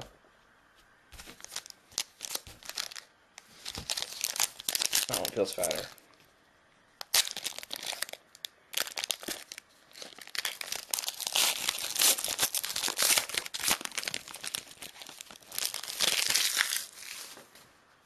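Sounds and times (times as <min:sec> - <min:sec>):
plastic wrapper crinkling and tearing: 0:01.2 - 0:06.1, 0:07.0 - 0:17.5.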